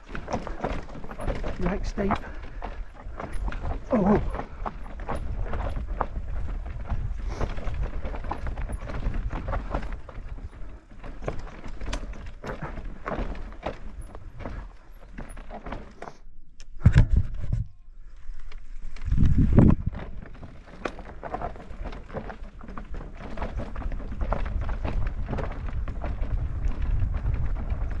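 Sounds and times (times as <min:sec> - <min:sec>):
bike clattering over stony ground: 0:00.0 - 0:17.2, 0:18.4 - 0:28.0.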